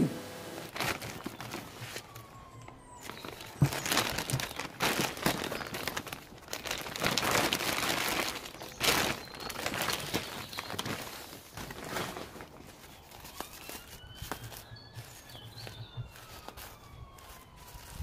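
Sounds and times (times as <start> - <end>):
plastic bags rustling: 0.6 - 18.0.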